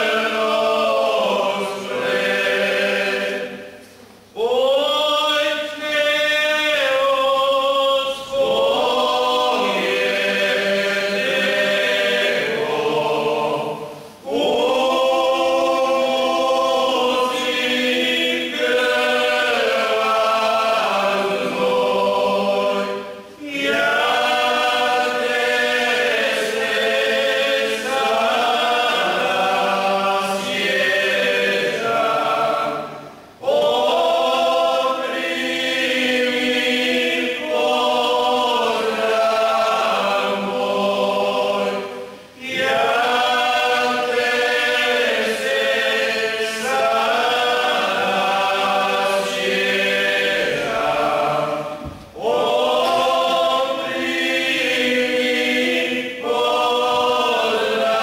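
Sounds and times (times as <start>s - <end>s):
male choir singing a cappella: 0.0s - 58.0s.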